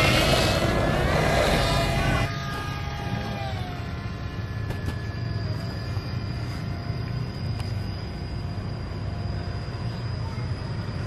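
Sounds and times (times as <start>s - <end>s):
model plane motor buzzing whine: 0.0s - 11.0s.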